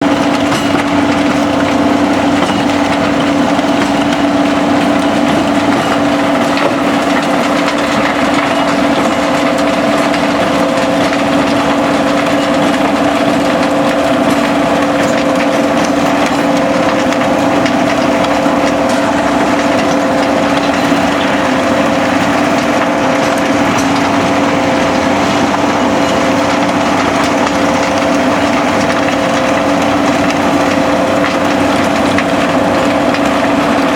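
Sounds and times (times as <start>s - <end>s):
impact crusher droning: 0.0s - 33.9s
rubble crackling and rattling: 0.0s - 33.9s.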